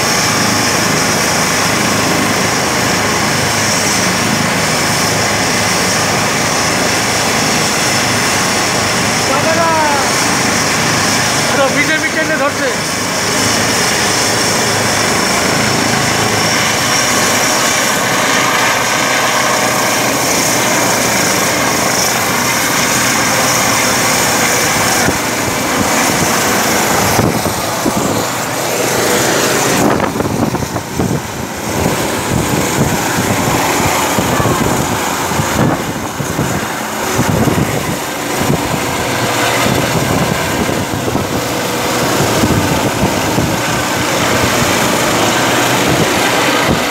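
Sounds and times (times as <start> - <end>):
helicopter rotor noise: 0.0 - 46.9
helicopter turbine whine: 0.0 - 46.9
wind gusts on microphone: 0.0 - 46.9.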